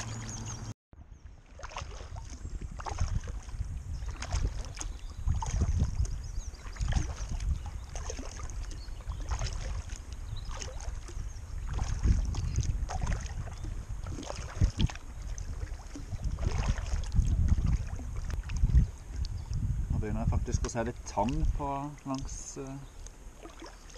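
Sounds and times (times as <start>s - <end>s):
paddle splashing in water: 0.0s - 19.6s, 21.1s - 23.9s
wind rumble on microphone: 0.0s - 23.4s.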